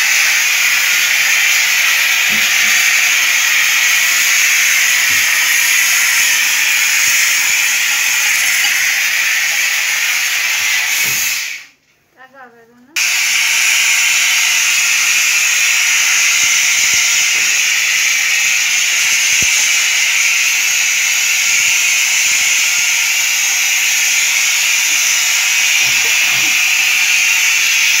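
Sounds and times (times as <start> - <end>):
steam hissing from spray gun: 0.0 - 11.8, 13.0 - 28.0.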